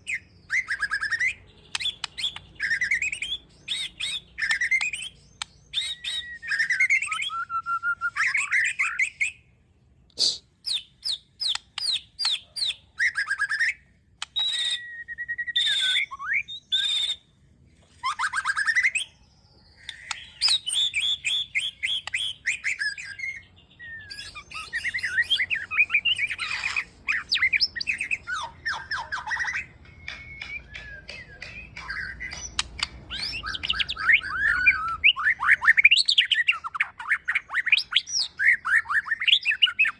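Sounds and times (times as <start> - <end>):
bird singing whistled notes: 0.0 - 9.5, 10.6 - 17.3, 18.1 - 39.9.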